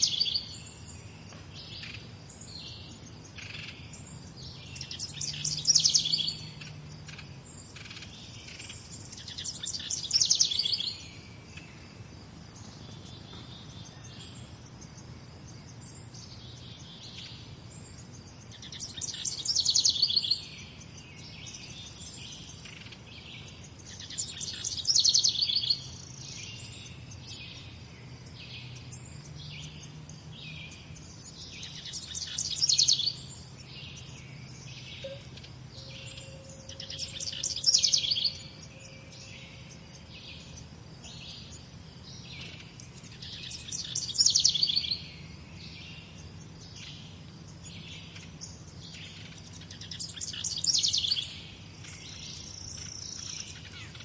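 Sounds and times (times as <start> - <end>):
bird singing loud rapid song: 0.0 - 54.0
birds chirping softly: 0.0 - 54.0.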